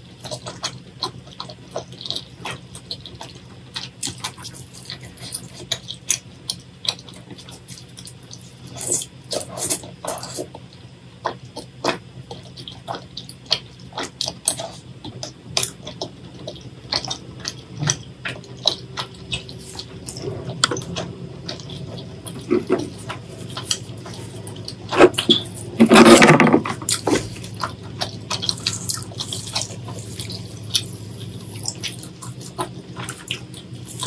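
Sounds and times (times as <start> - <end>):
low steady hum: 0.0 - 34.0
wet chewing and lip smacking: 0.2 - 26.1, 26.7 - 34.0.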